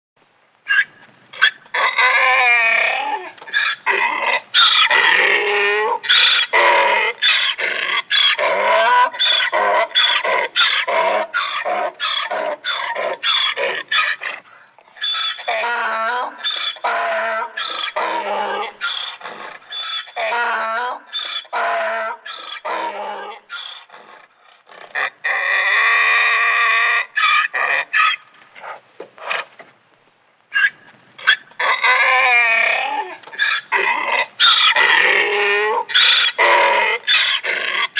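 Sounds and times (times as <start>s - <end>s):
donkey braying: 0.7s - 29.7s, 30.5s - 37.9s.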